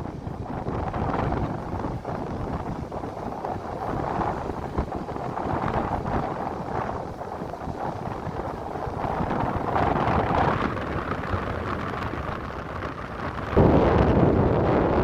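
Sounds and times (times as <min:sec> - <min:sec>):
strong wind gusts on microphone: 0:00.0 - 0:15.0.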